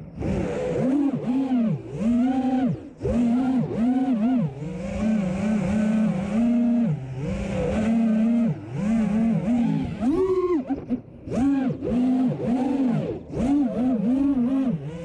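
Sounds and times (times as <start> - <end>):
racing drone motors whining: 0.0 - 15.0.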